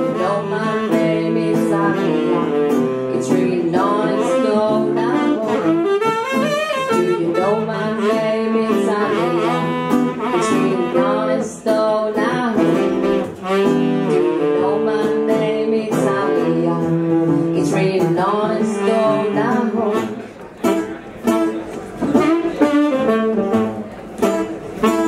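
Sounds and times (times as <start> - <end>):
woman singing: 0.0 - 20.3
guitar playing: 0.0 - 25.0
saxophone: 0.0 - 25.0.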